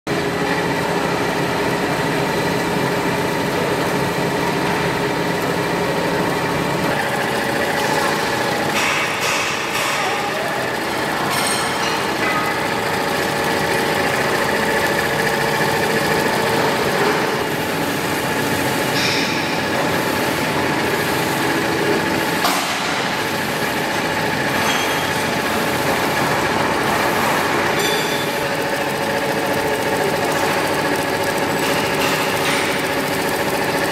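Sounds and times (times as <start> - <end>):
embroidery machine stitching: 0.1 - 33.9.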